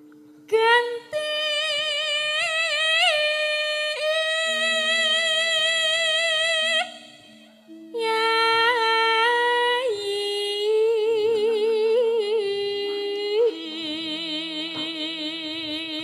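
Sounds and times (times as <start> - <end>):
soft gamelan tones: 0.0 - 16.0
woman singing with vibrato: 0.5 - 16.0.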